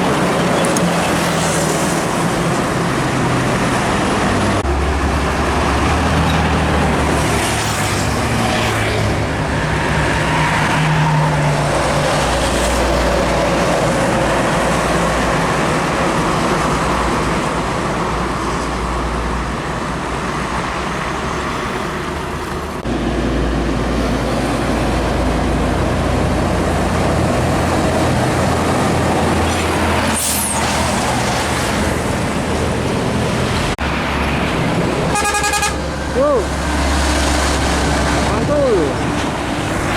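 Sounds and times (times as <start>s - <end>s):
heavy trucks driving past: 0.0s - 39.9s.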